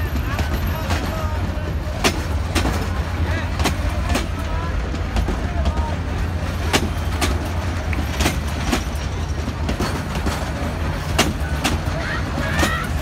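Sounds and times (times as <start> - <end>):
train coaches rumbling: 0.0 - 13.0
wheel clicks on rail joints: 0.0 - 13.0.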